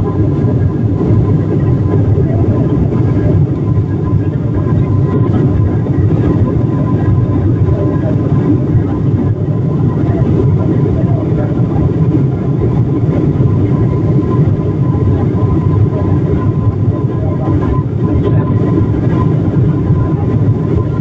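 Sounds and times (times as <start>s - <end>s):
airliner engine and airflow rumble: 0.0s - 21.0s
faint steady whine: 0.0s - 21.0s.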